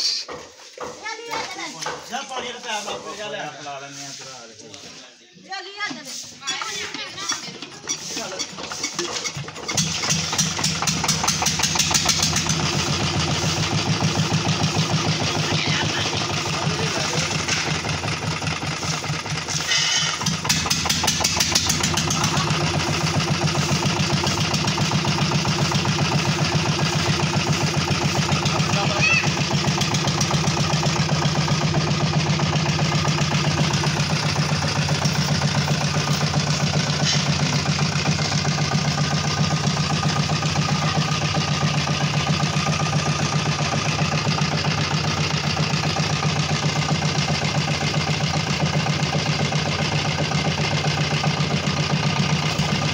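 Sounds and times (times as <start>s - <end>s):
diesel engine running: 6.2s - 52.9s.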